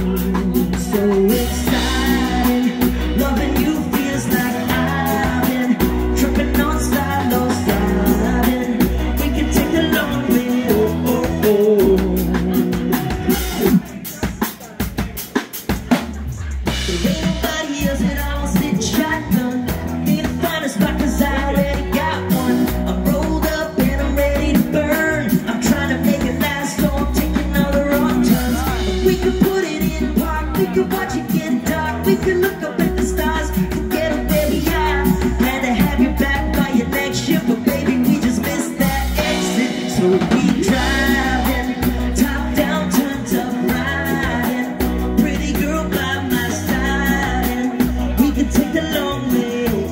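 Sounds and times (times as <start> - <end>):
electric guitars: 0.0 - 15.0, 15.9 - 49.9
drum kit: 0.0 - 49.9
keyboard: 0.0 - 49.9
person singing: 0.0 - 49.9.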